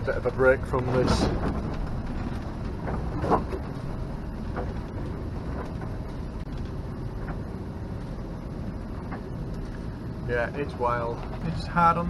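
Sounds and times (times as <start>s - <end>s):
boat engine running: 0.0s - 12.0s
wind and sea rumble: 0.0s - 12.0s.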